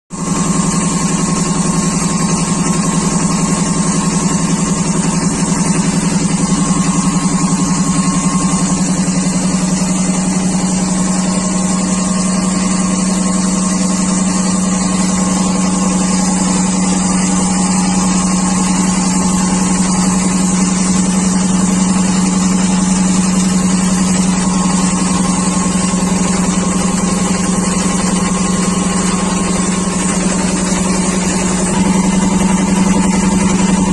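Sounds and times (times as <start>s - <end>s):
air compressor running: 0.1s - 33.9s.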